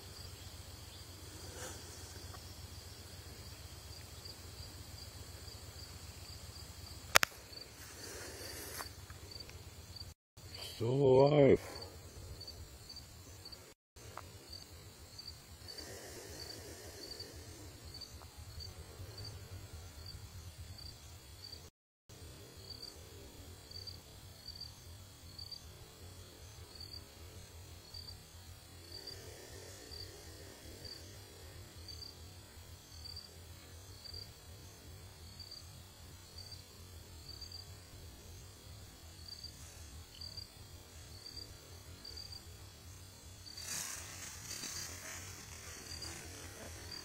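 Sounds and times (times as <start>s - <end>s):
faint insect chirps: 0.0s - 47.0s.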